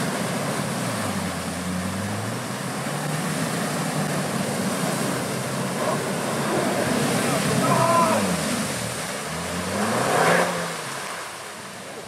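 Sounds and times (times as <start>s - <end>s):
water and mud splashing: 0.0s - 12.0s.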